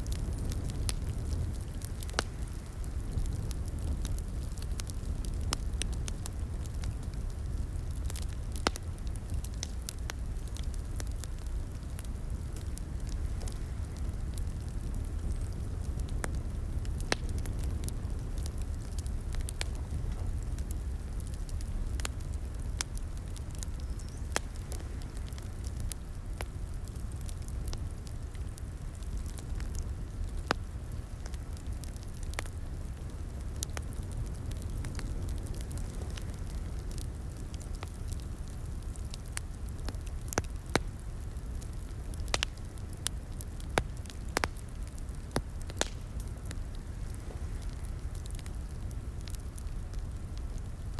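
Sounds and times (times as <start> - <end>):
fire popping and snapping: 0.0 - 50.9
low rumble of flames: 0.0 - 50.9.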